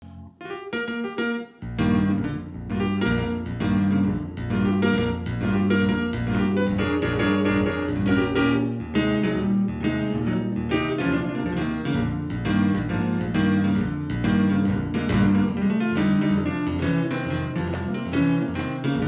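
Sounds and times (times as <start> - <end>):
piano chords: 0.0 - 19.0
bass line: 1.6 - 19.0.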